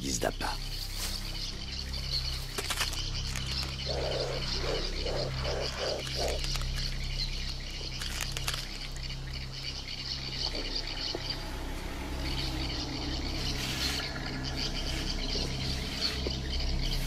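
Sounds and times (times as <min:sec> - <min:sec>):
low hum: 0:00.6 - 0:17.0
high-pitched animal chorus: 0:01.4 - 0:17.0.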